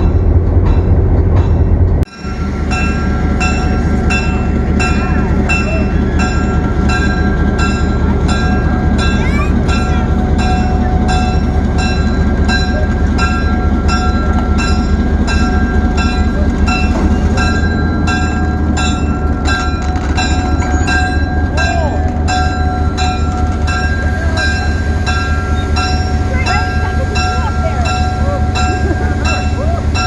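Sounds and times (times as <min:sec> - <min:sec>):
locomotive bell ringing: 0:00.0 - 0:30.0
locomotive engine rumbling: 0:00.0 - 0:30.0.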